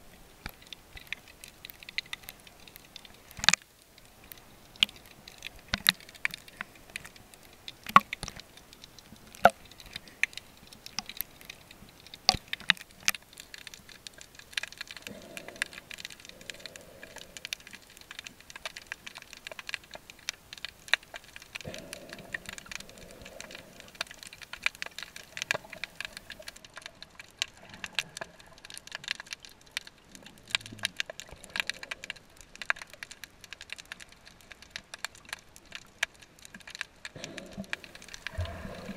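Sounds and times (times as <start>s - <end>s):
sharp clicks and crackles: 0.1s - 38.9s.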